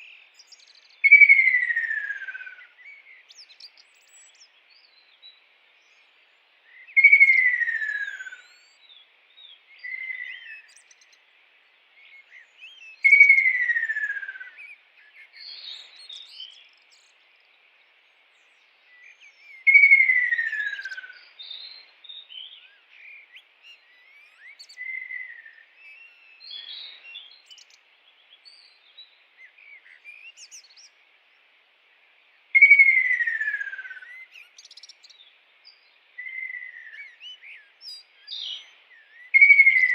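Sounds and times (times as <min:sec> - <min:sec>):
soft bird whistles and chirps: 0:00.0 - 0:11.3, 0:12.0 - 0:31.5, 0:32.5 - 0:39.9.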